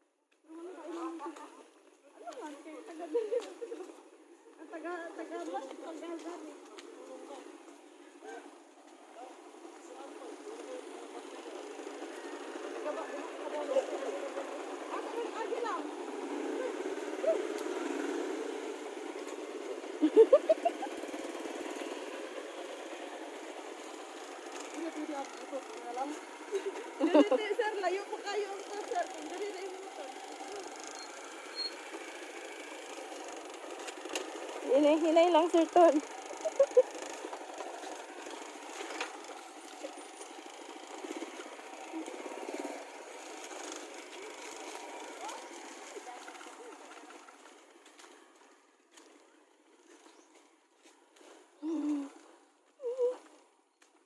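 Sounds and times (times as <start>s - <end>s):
vehicle engine running: 0.6s - 52.6s.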